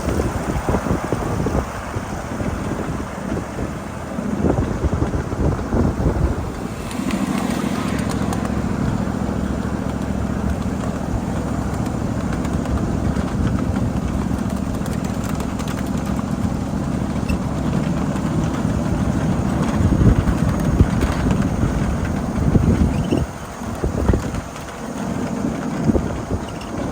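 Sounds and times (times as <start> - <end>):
miniature train humming: 0.0 - 26.9
rolling wheel noise: 0.0 - 26.9.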